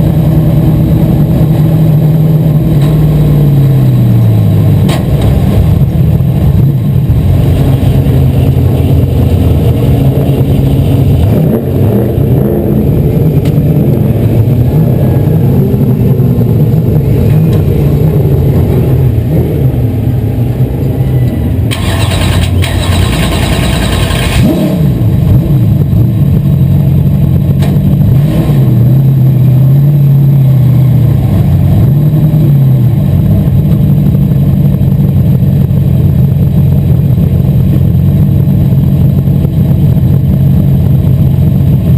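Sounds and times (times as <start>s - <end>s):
race car engine revving: 0.0s - 41.8s.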